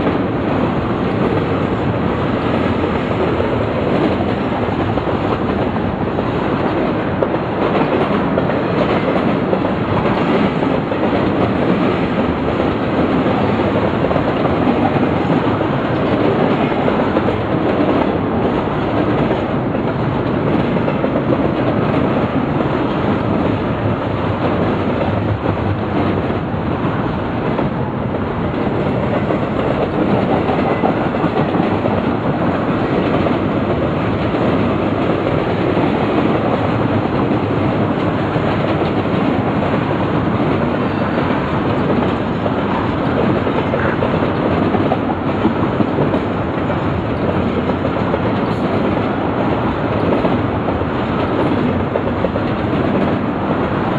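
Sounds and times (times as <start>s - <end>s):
train wheels rolling on rails: 0.0s - 53.9s.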